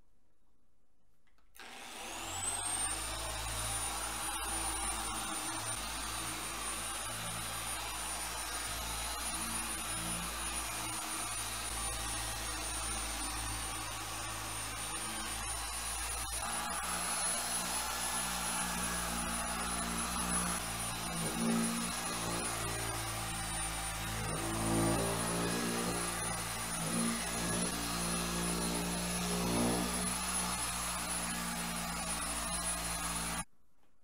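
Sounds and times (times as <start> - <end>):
electric polisher motor whining: 1.6 - 33.5.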